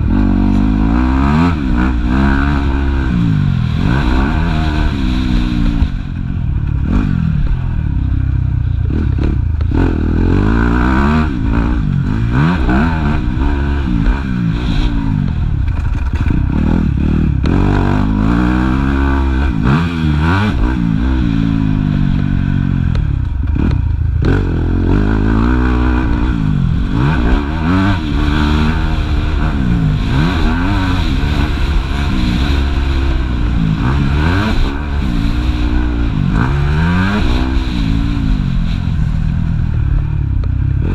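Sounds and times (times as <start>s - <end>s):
motocross engine revving: 0.0s - 40.9s.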